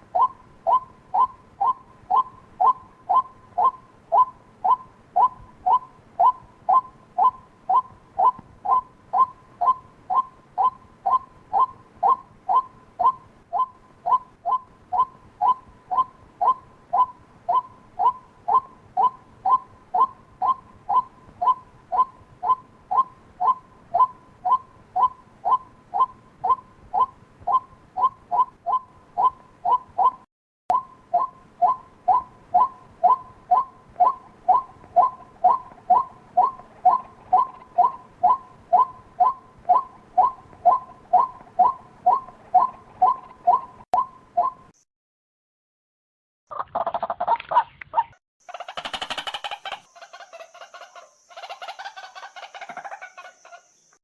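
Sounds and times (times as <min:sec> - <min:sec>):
bird calling kwak notes: 0:00.0 - 0:44.7, 0:48.4 - 0:54.0.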